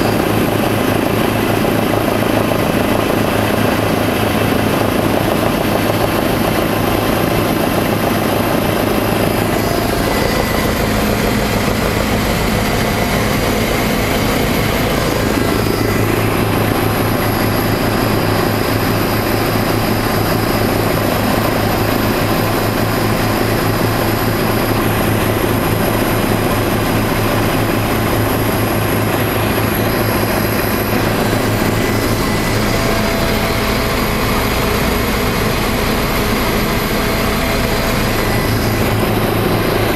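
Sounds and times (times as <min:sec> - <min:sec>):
helicopter engine and rotor noise: 0:00.0 - 0:39.9
thin high whine: 0:05.8 - 0:39.9.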